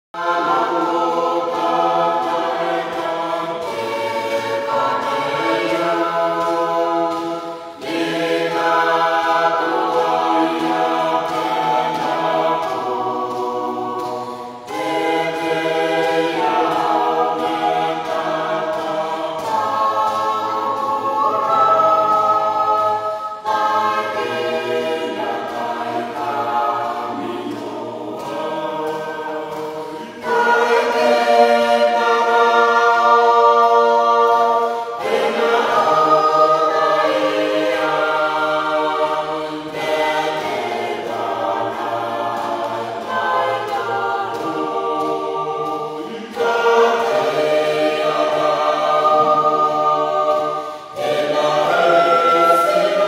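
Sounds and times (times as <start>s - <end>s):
youth choir singing: 0.2s - 53.0s.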